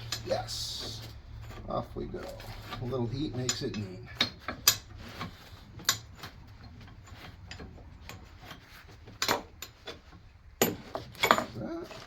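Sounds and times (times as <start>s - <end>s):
metal clicks and knocks: 0.0s - 11.6s
light metal scraping: 0.0s - 12.0s.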